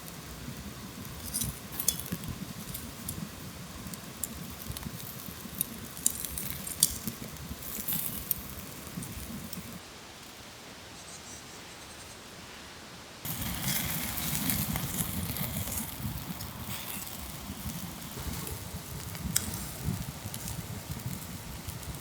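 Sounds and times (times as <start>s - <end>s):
campfire crackling: 0.0s - 10.4s, 13.2s - 22.0s
sharp pops of fire: 0.6s - 9.8s, 13.3s - 22.0s.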